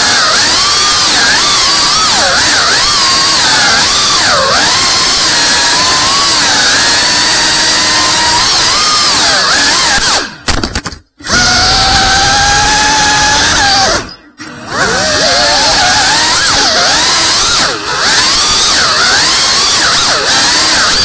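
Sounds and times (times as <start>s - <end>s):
drone motors whining: 0.0s - 10.4s, 11.2s - 21.0s.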